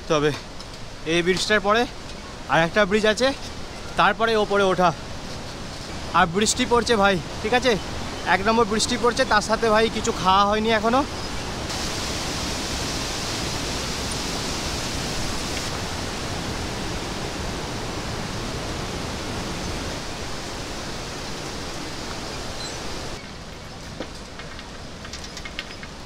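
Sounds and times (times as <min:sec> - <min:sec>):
mountain stream rushing: 0:00.0 - 0:26.0
heavy rain: 0:00.2 - 0:23.6.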